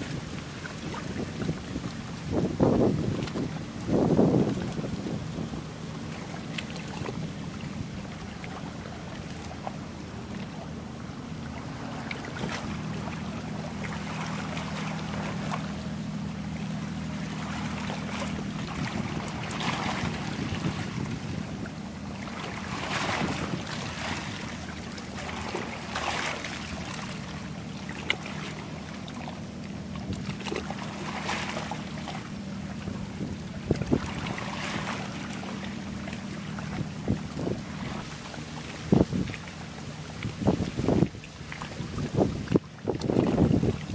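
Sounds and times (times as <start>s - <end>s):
boat engine humming: 0.0s - 43.9s
water splashing: 0.0s - 43.9s.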